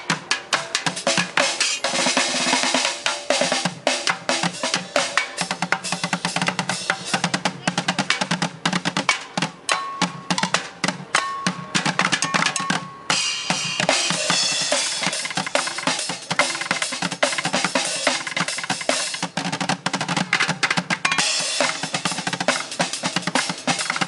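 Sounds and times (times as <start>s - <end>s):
bucket drumming: 0.0s - 24.0s.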